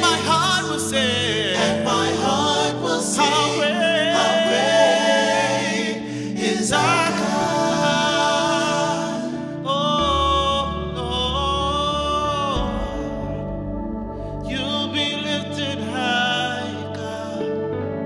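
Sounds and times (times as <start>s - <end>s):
sustained instrumental chords: 0.0s - 18.0s
voices singing worship song: 0.0s - 18.0s.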